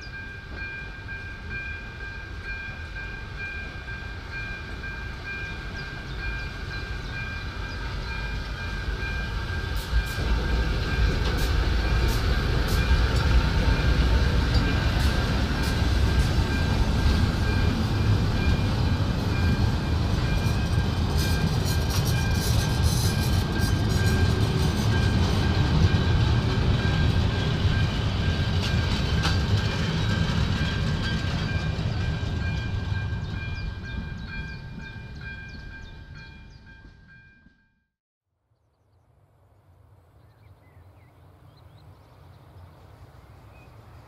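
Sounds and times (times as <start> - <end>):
train wheels rumbling on rails: 0.0 - 37.6.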